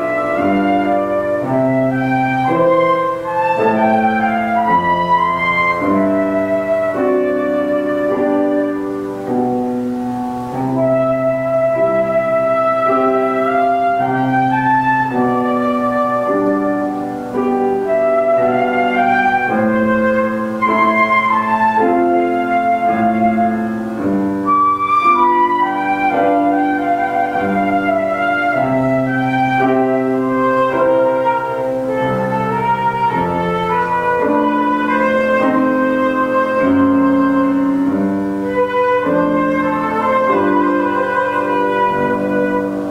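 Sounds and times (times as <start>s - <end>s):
flute melody: 0.0s - 42.9s
piano accompaniment: 0.0s - 42.9s.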